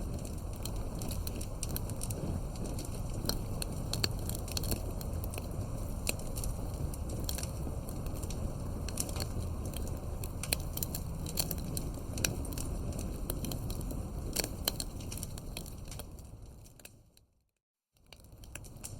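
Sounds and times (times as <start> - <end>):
campfire crackling: 0.0 - 17.2, 18.0 - 18.9.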